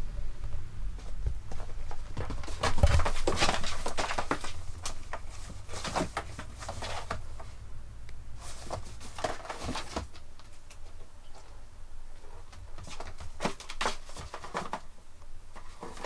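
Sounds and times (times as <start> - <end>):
soft rustles: 0.0 - 7.7, 8.3 - 16.0
low steady hum: 0.0 - 16.0.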